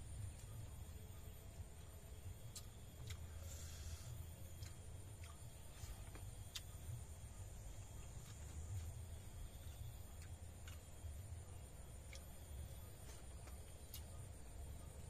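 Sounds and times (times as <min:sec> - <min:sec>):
insects humming: 0:00.0 - 0:15.0
man eating by hand: 0:00.0 - 0:15.0.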